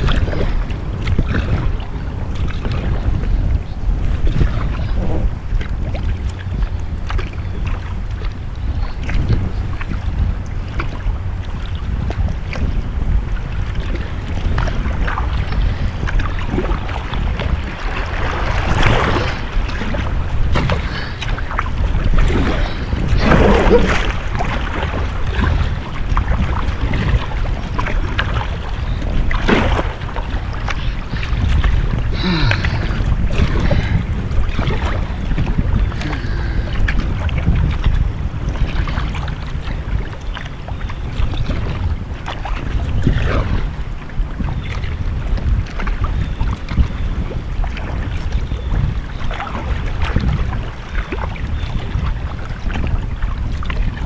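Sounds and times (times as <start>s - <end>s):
paddle strokes splashing in water: 0.0s - 54.0s
wind rumble on microphone: 0.0s - 54.0s.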